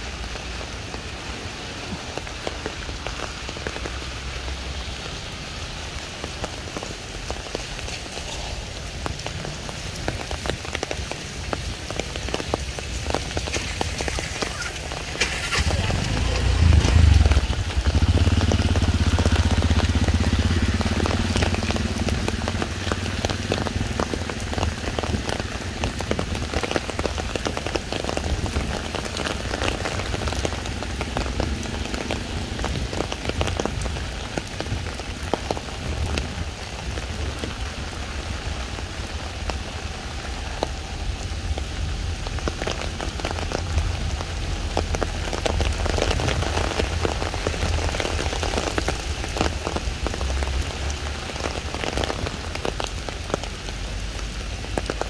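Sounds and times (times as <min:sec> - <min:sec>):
rain falling on a wet road: 0:00.0 - 0:55.0.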